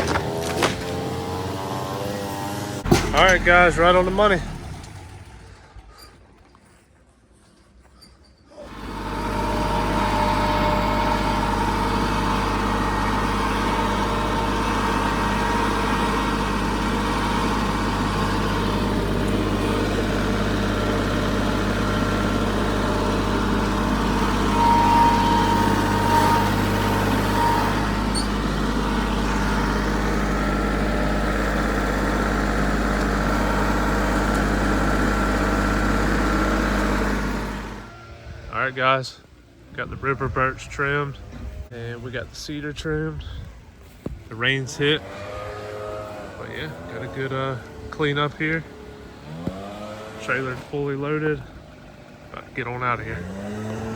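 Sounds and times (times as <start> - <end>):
large engine running: 0.0 - 6.6, 8.6 - 53.9.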